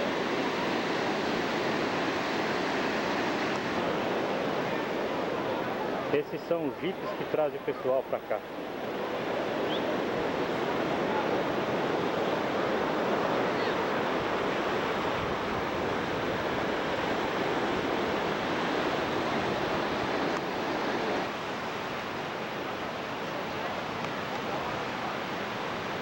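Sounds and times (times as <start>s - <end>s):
ocean surf washing on beach: 0.0s - 26.0s.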